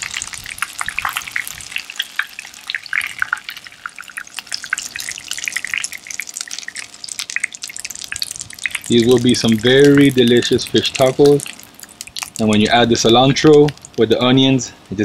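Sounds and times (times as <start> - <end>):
hot oil crackling in a pan: 0.0 - 15.0.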